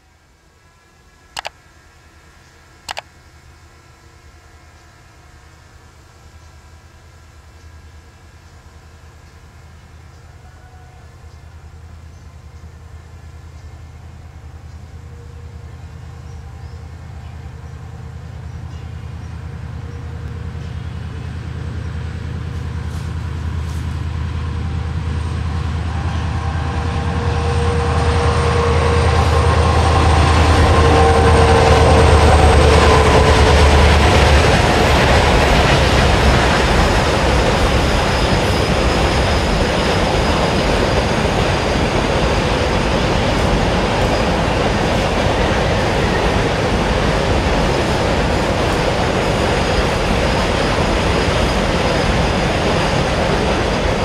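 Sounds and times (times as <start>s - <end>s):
diesel locomotive drone: 0.0s - 54.0s
train wheels rumbling on rail: 6.4s - 54.0s.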